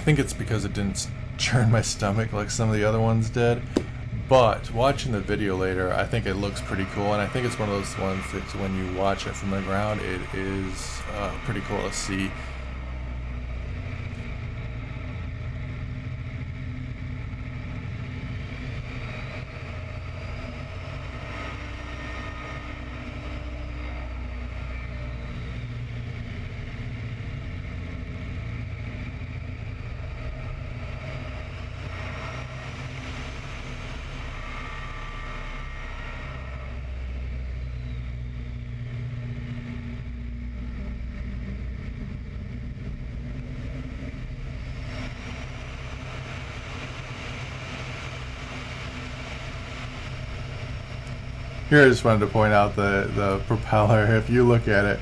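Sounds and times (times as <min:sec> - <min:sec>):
biplane engine and propeller: 0:00.0 - 0:55.0.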